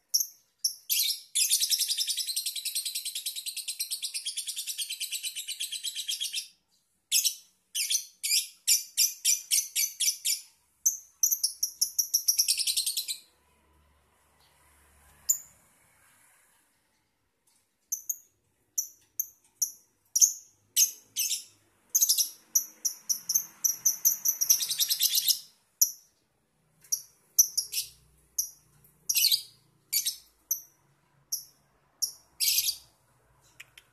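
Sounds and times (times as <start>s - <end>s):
lovebird chirping: 0.0s - 13.4s, 15.2s - 15.6s, 17.9s - 33.9s.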